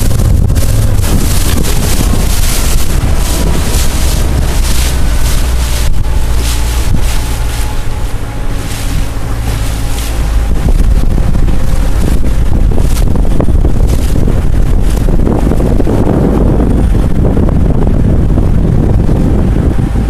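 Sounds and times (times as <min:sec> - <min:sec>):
rush of water: 0:00.0 - 0:20.0
wind buffeting microphone: 0:00.0 - 0:20.0.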